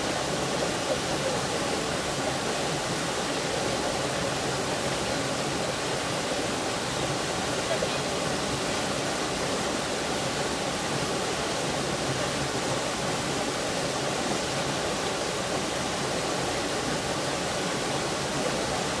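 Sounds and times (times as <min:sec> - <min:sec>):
small waterfall rushing: 0:00.0 - 0:19.0.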